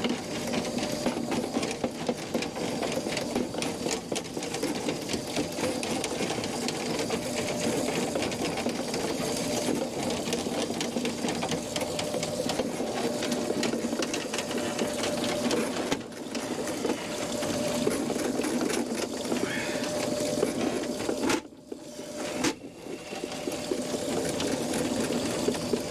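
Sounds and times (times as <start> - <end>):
drill spinning drain cable: 0.0 - 25.9.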